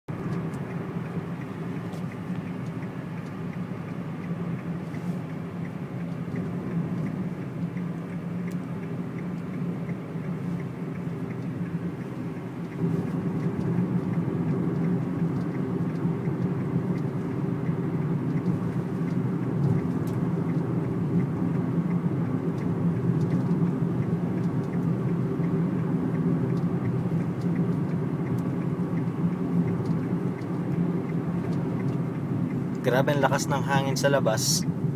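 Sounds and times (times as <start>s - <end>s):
road and engine noise: 0.0s - 34.9s.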